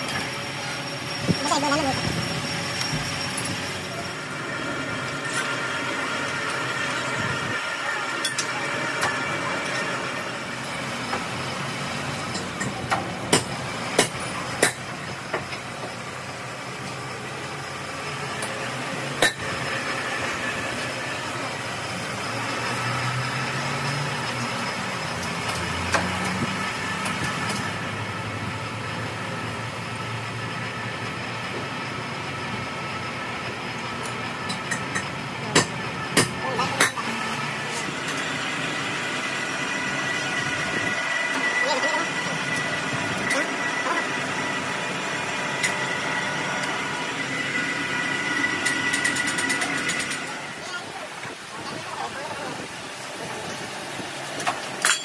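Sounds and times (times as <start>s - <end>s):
machine shop hum: 0.0s - 55.0s.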